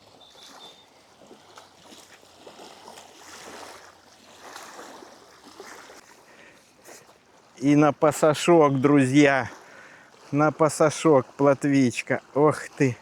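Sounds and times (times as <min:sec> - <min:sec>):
choppy water lapping: 0:00.0 - 0:13.0.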